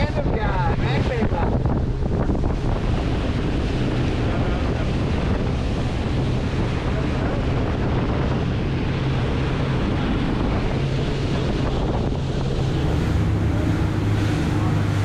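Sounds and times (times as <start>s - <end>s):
outboard motors droning: 0.0s - 15.0s
rush of boat wake: 0.0s - 15.0s
wind buffeting microphone: 0.0s - 15.0s.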